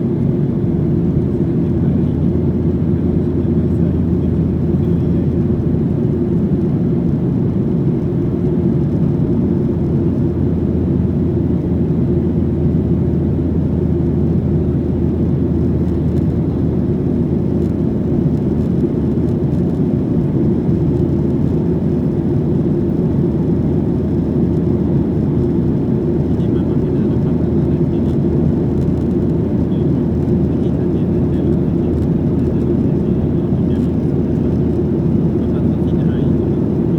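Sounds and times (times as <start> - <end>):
airplane cabin drone: 0.0 - 36.9.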